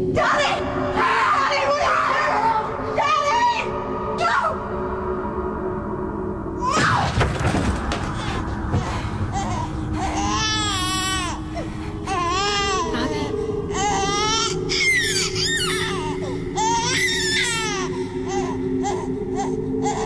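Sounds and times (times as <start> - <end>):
low steady drone: 0.0 - 6.7, 7.6 - 20.0.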